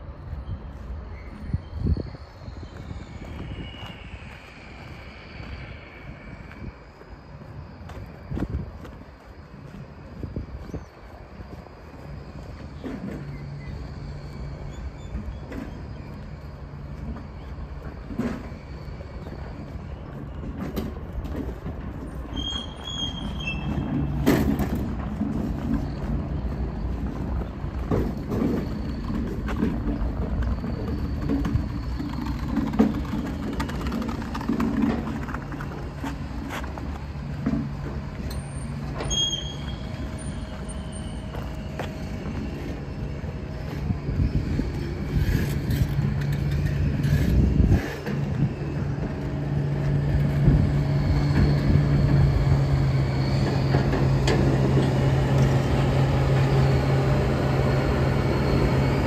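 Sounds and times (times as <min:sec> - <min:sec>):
low mechanical hum: 0:00.0 - 0:59.0
low outdoor rumble: 0:00.0 - 0:59.0.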